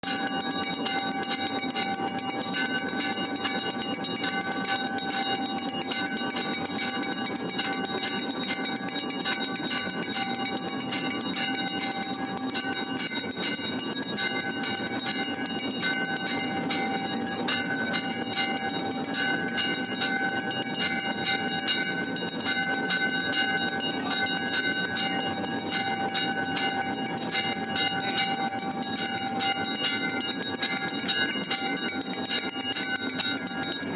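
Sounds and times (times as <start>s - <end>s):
temple bells ringing: 0.0s - 33.9s.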